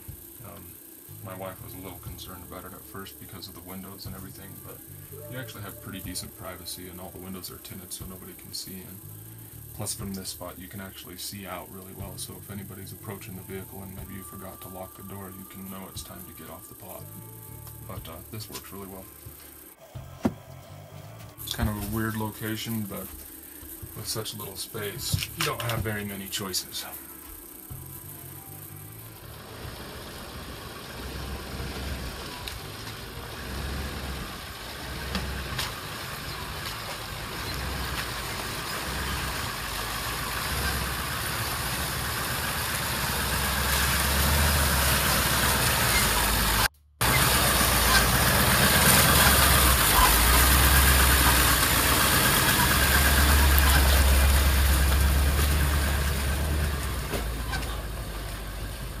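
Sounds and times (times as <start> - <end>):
van engine running: 0.0 - 59.0.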